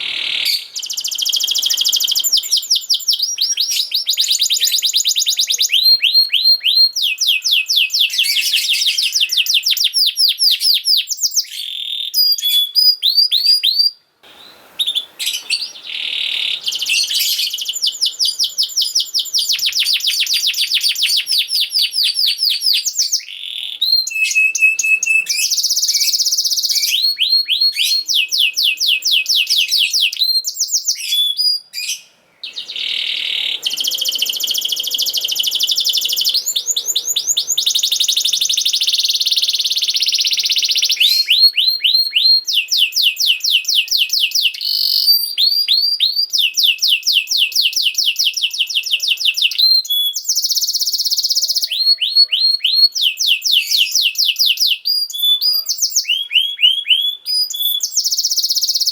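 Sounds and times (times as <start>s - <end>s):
canary singing: 0.0s - 58.9s.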